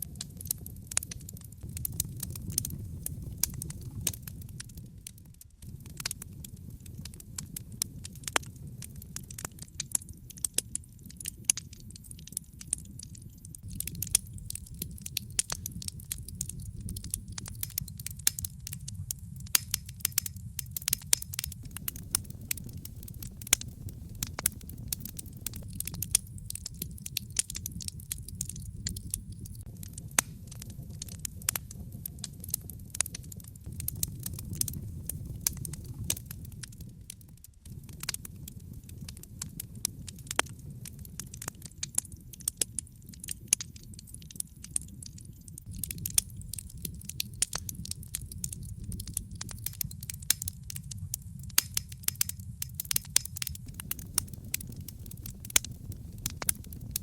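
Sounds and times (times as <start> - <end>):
wood fire crackling: 0.0 - 57.0
low steady rumble: 1.5 - 9.4, 13.6 - 40.9, 45.6 - 57.0.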